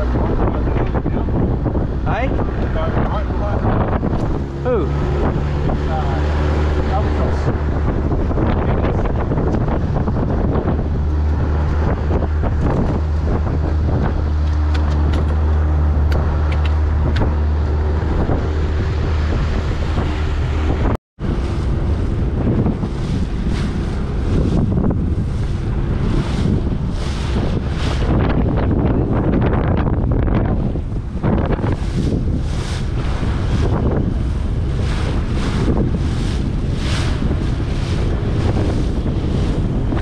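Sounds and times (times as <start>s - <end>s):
outboard motor droning: 0.0s - 40.0s
water rushing past hull: 0.0s - 40.0s
wind buffeting microphone: 0.0s - 40.0s.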